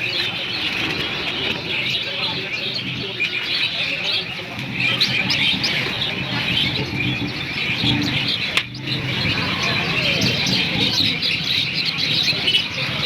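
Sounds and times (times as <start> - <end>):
small birds chirping: 0.0 - 13.0
low background rumble: 0.1 - 13.0.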